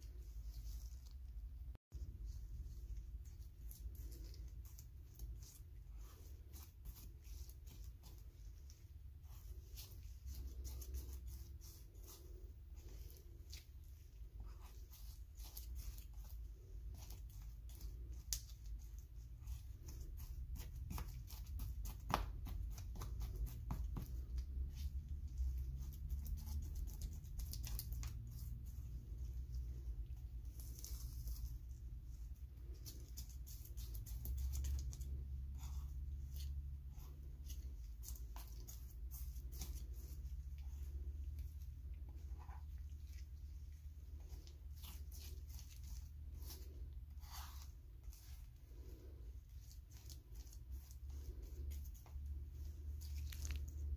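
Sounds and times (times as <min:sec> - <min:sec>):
palette knife scraping paint: 0:02.1 - 0:53.9.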